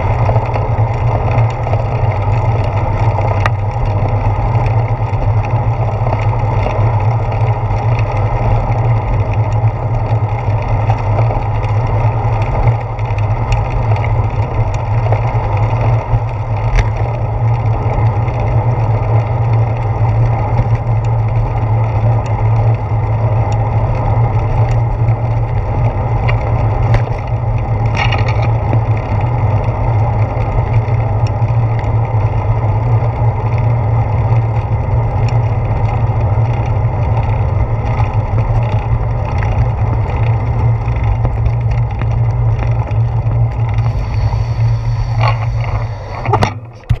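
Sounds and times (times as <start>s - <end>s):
tyre noise on pavement: 0.0s - 47.0s
wind rumble: 0.0s - 47.0s.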